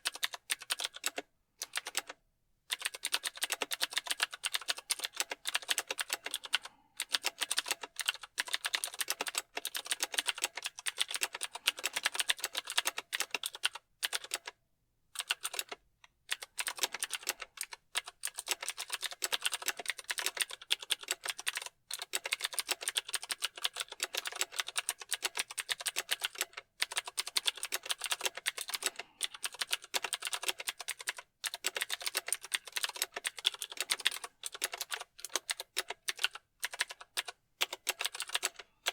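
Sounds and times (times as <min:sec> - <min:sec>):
mechanical keyboard typing: 0:00.0 - 0:14.6, 0:15.2 - 0:38.9.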